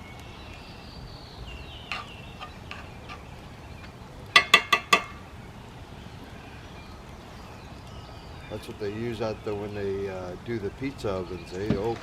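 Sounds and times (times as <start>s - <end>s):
loud bird calls: 0.0s - 12.0s.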